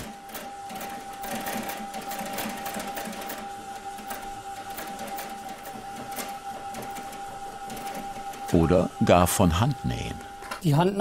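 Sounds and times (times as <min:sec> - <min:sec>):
sewing machine stitching: 0:00.0 - 0:08.8.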